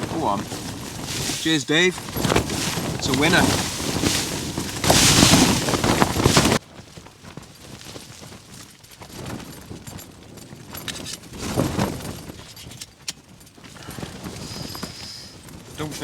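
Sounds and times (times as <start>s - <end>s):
gear clicking and rustling: 0.0s - 16.0s
tent fabric shaking in wind: 0.0s - 16.0s.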